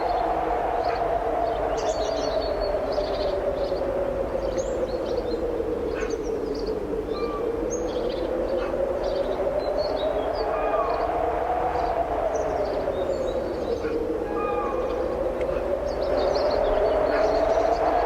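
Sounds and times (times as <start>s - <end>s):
strong wind blowing: 0.0s - 18.0s
small birds chirping: 0.8s - 18.0s.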